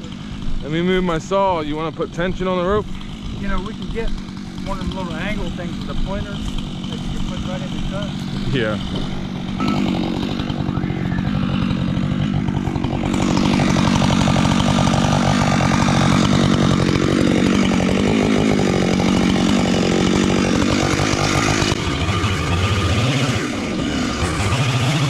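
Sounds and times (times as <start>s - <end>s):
chainsaw cutting tree trunk: 0.0s - 25.0s.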